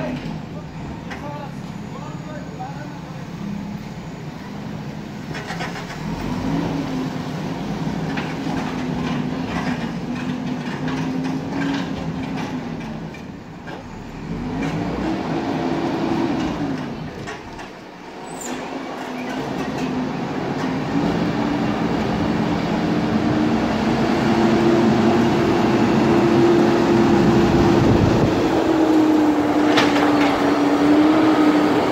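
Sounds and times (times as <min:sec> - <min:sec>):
bulldozer diesel engine: 0:00.0 - 0:31.9.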